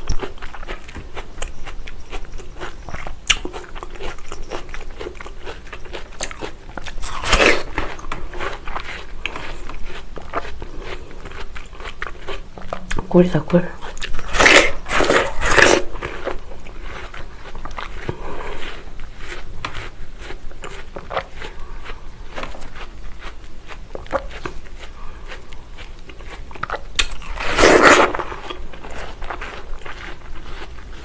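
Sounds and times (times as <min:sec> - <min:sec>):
biting into watermelon: 0:00.0 - 0:13.0, 0:13.8 - 0:31.0
chewing watermelon: 0:00.0 - 0:31.0.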